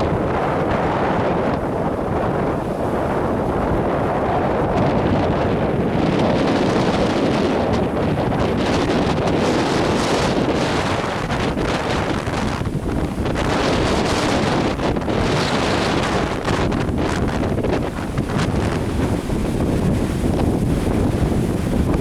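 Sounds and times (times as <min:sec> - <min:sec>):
lake waves washing: 0:00.0 - 0:22.0
wind buffeting microphone: 0:00.0 - 0:22.0.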